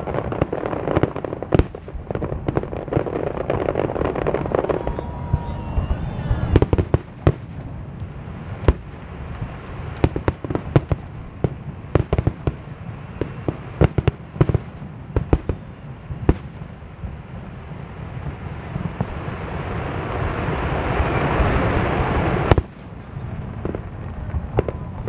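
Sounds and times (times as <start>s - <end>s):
fireworks bangs and pops: 0.0s - 25.0s.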